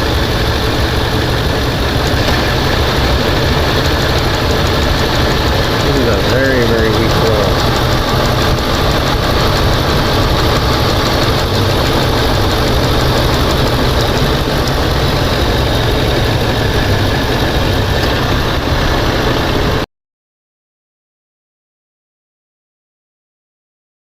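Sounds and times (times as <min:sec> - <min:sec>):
truck engine idling: 0:00.0 - 0:19.8.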